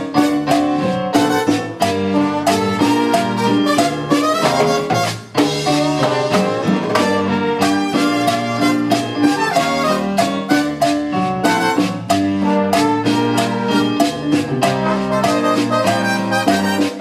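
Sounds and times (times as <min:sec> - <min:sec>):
salsa band playing: 0:00.0 - 0:17.0.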